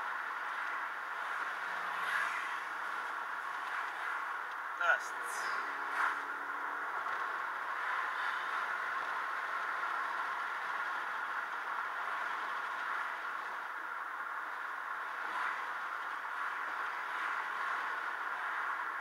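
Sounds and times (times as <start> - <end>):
road and tyre noise inside car: 0.0 - 19.0.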